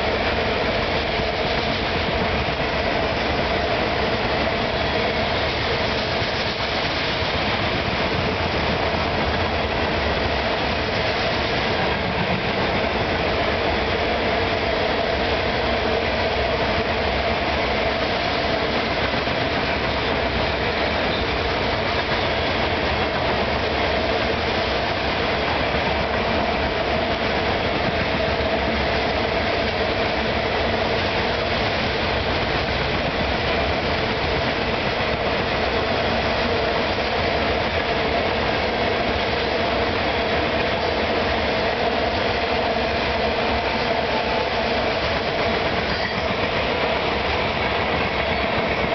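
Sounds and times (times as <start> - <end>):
freight train wheels rushing on rails: 0.0 - 48.9.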